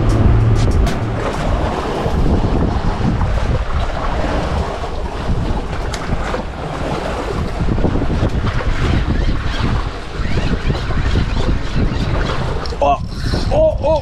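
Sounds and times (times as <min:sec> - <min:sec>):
choppy waves washing: 0:00.0 - 0:14.0
wind buffeting microphone: 0:00.0 - 0:14.0.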